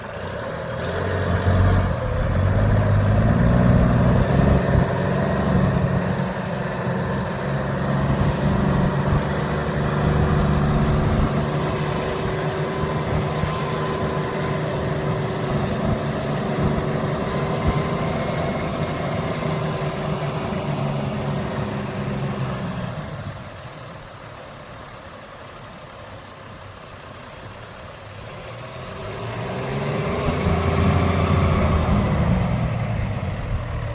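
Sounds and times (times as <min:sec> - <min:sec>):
diesel truck engine idling: 0:00.0 - 0:23.5, 0:30.0 - 0:33.9.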